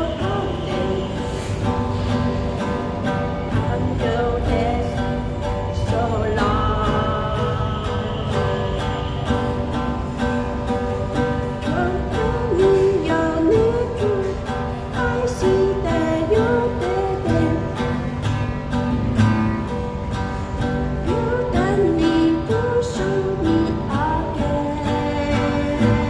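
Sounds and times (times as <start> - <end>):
person singing: 0.0 - 18.4, 20.8 - 26.0
acoustic guitar strumming: 0.0 - 26.0.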